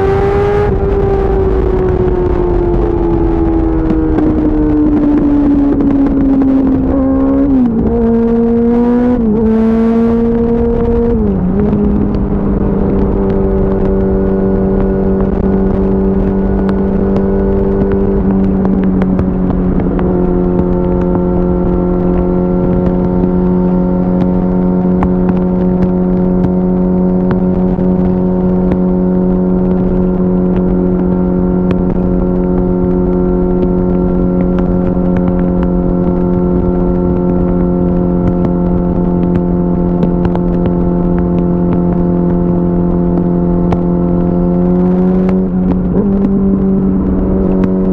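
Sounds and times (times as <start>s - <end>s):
motorcycle engine upshifting: 0.0s - 47.9s
wind rush: 0.0s - 47.9s.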